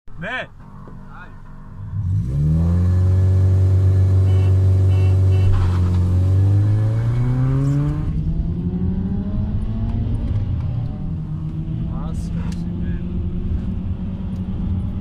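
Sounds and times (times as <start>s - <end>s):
car engine at full throttle: 0.5s - 15.0s.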